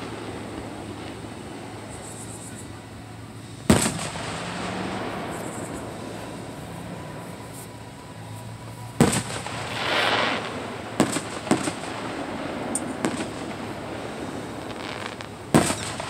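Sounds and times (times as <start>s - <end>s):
background noise: 0.0s - 16.0s
firework bangs: 0.0s - 16.0s.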